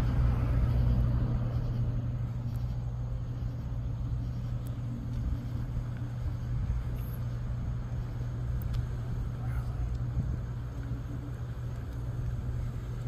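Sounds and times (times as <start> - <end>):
faint traffic: 0.0 - 13.0
low mechanical hum: 0.0 - 13.0.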